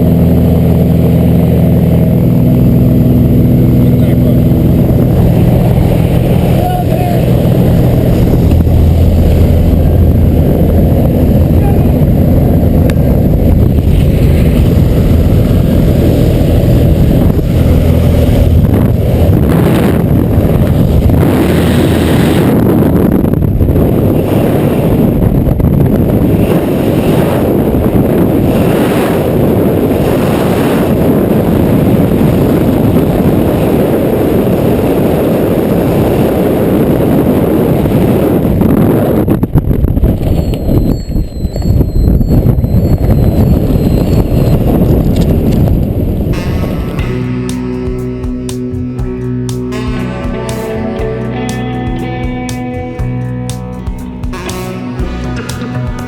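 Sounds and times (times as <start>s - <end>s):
plane engine and propeller droning: 0.0s - 56.0s
wind rushing over microphone: 0.0s - 56.0s.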